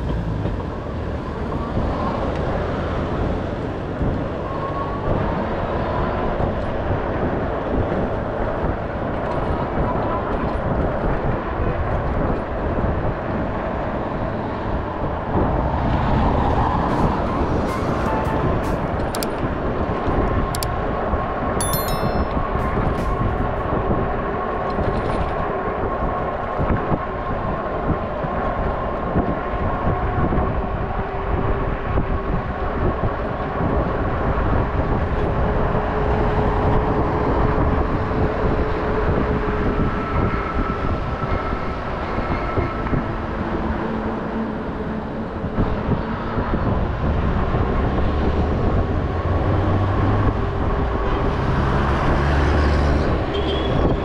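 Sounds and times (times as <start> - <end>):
road and wind rumble on microphone: 0.0 - 54.0.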